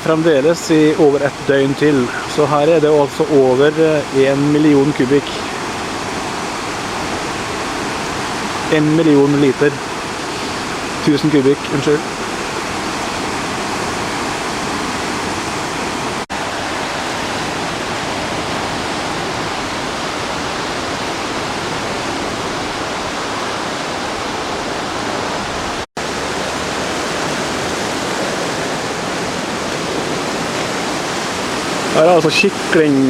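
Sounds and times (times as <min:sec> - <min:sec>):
flooded river rushing: 0:00.0 - 0:33.0.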